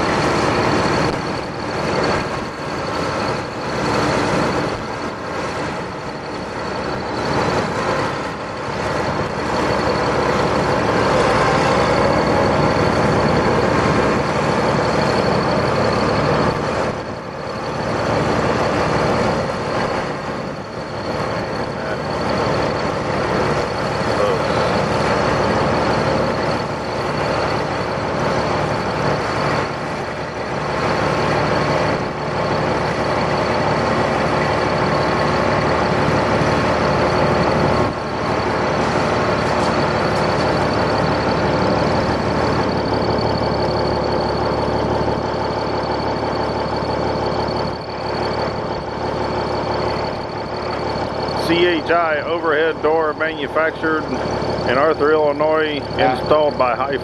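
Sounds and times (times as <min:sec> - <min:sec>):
large engine running: 0:00.0 - 0:57.0
thin high whine: 0:00.0 - 0:57.0.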